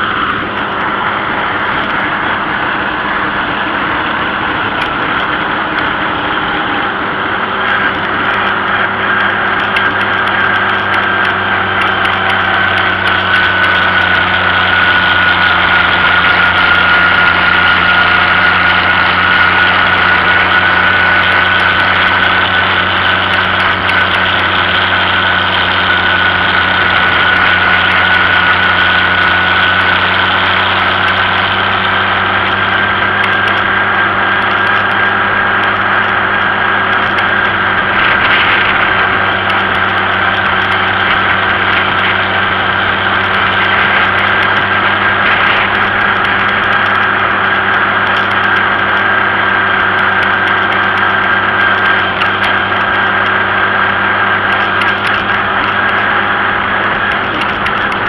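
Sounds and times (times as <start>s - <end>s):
high whine: 0.0s - 58.0s
tractor engine running: 0.0s - 58.0s.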